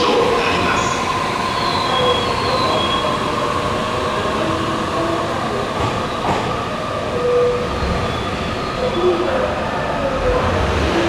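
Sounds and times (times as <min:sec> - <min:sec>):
electric train rolling rumble: 0:00.0 - 0:11.0
wheels and brakes squealing: 0:00.0 - 0:11.0.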